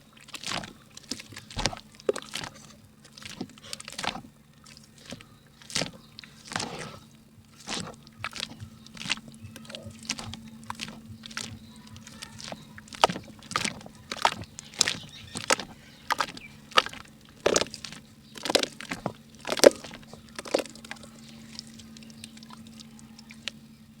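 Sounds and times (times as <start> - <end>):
mud crunching in hand: 0.0 - 23.7
faint low hum: 0.0 - 24.0.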